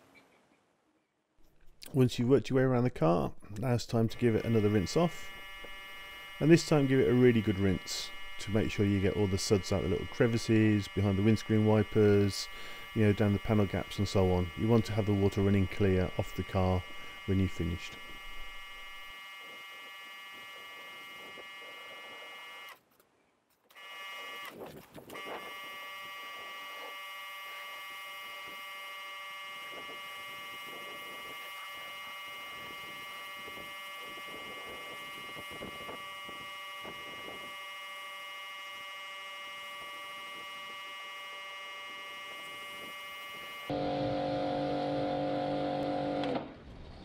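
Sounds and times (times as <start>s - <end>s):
pressure washer whining: 4.1s - 22.8s, 25.2s - 46.6s.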